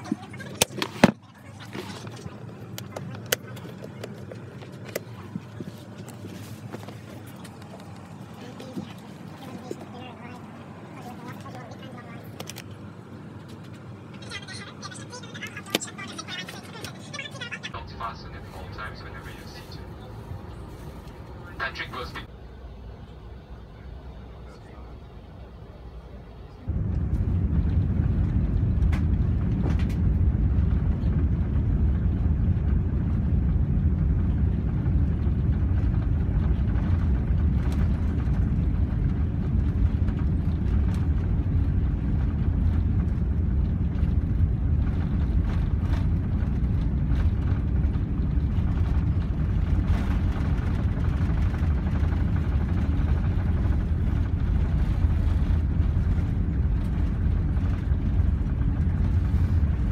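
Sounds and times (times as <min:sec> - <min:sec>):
airplane engines rumbling: 0:00.0 - 0:59.9.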